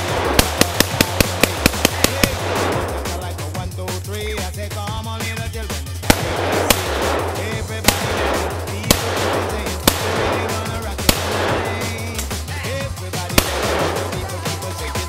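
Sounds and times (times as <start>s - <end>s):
rifle shots: 0.0s - 3.7s, 6.0s - 15.0s
music with heavy bass: 0.0s - 15.0s.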